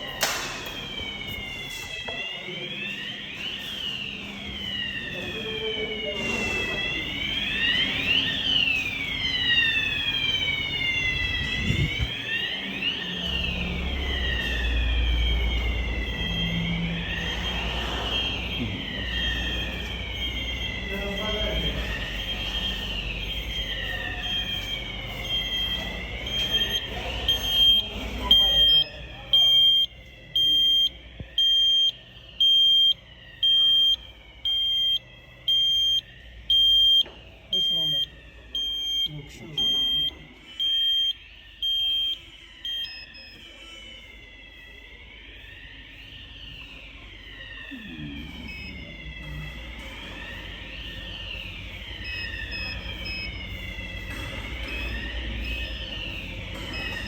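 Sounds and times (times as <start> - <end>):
fire alarm siren wail: 0.0 - 57.0.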